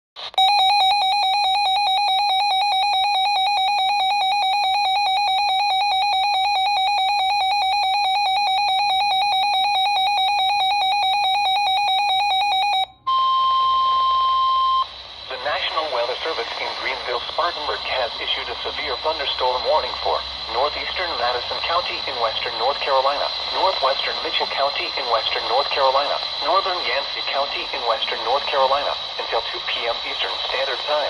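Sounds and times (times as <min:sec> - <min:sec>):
weather radio alarm beeping: 0:00.2 - 0:31.0
steady warning alarm tone: 0:00.4 - 0:31.0.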